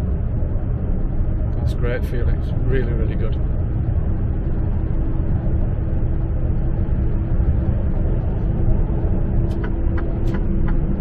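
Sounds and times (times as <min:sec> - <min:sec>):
road and tyre rumble: 0:00.0 - 0:11.0
steady hum: 0:00.0 - 0:11.0.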